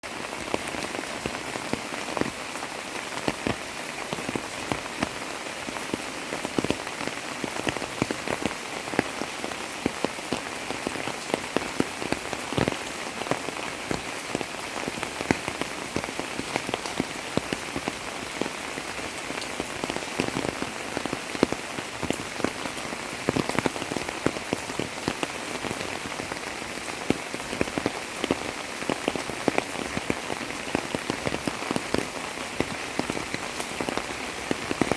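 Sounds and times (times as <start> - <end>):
rain hissing: 0.0 - 34.9
raindrops splashing on surfaces: 0.0 - 34.9.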